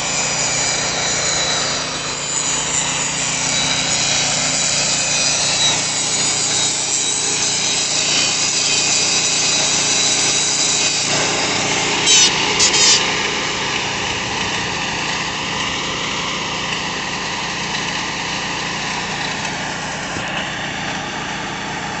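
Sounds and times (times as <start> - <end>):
power grinder grinding concrete: 0.0 - 22.0.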